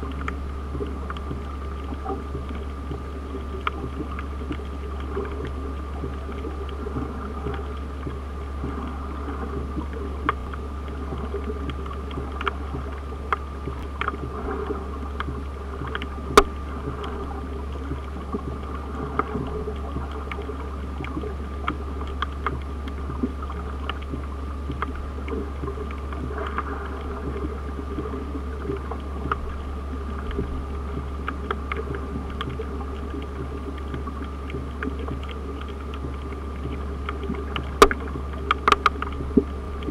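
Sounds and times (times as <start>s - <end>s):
low underwater hum: 0.0s - 39.9s
small clicks and crackles: 0.0s - 39.9s.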